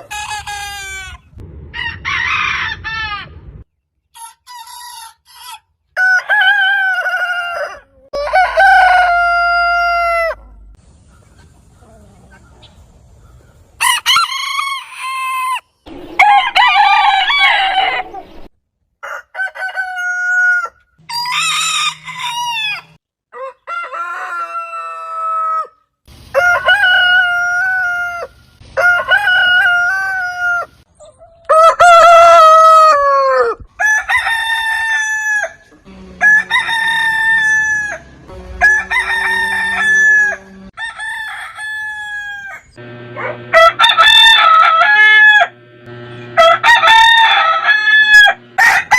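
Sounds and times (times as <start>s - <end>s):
roosters crowing: 0.0s - 10.7s, 13.8s - 48.9s.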